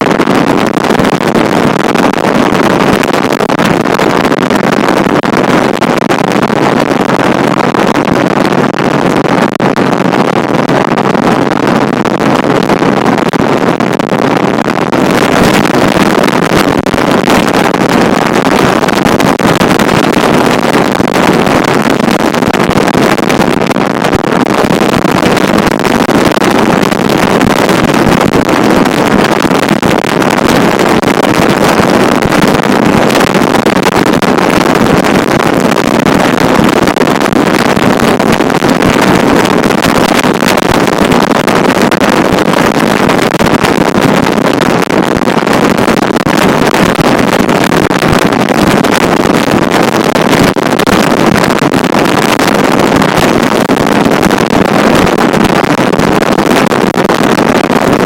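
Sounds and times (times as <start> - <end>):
wind noise on microphone: 0.0 - 58.0.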